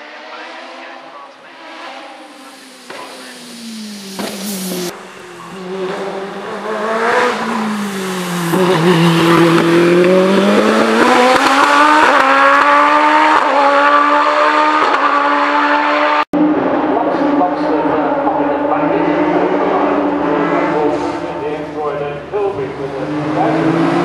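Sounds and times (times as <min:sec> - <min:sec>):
racing car engine revving: 0:00.0 - 0:24.0.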